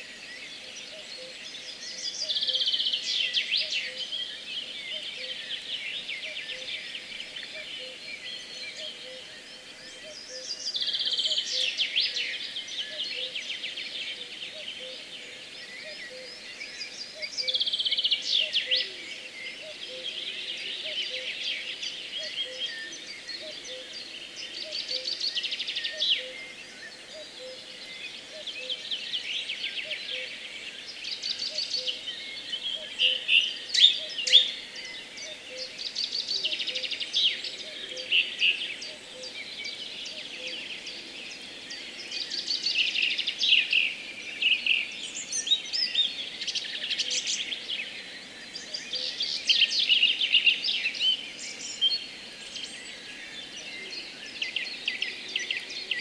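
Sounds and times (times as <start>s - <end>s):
bird singing loud song phrase: 0.0s - 56.0s
songbirds singing: 0.0s - 56.0s.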